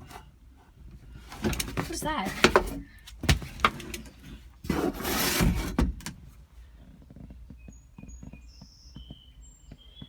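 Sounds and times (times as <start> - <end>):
rustling and scraping: 0.0 - 8.4.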